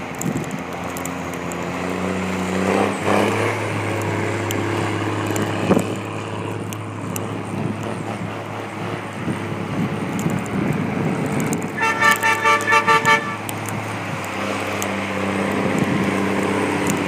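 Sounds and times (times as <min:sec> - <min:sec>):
truck diesel engine pulling: 0:00.0 - 0:17.0.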